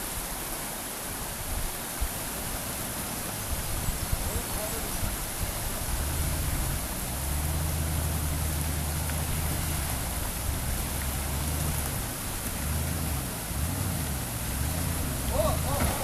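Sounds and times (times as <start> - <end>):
rushing river: 0.0 - 16.0
car engine rumble: 0.2 - 16.0.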